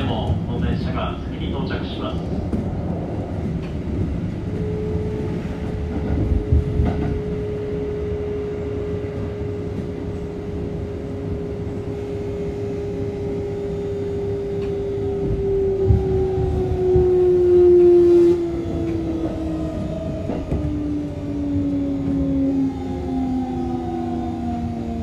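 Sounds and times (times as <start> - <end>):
low rumble inside train car: 0.0 - 25.0
train equipment humming: 0.0 - 25.0.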